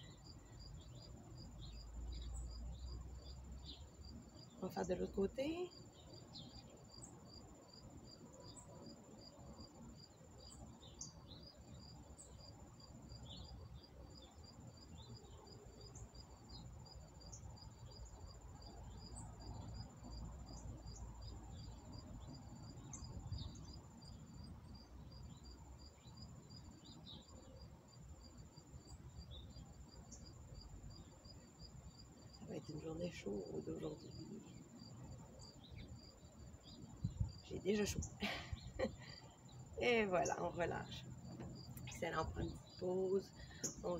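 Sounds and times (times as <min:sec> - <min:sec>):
insect chirping: 0:00.0 - 0:43.9
insect trill: 0:00.0 - 0:43.9.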